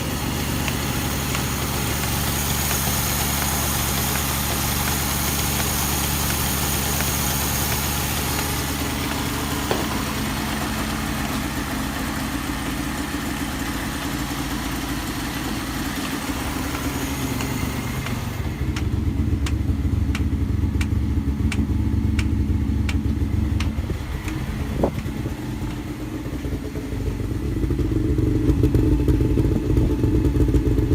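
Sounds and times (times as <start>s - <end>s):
two-stroke engine running: 0.0s - 30.9s.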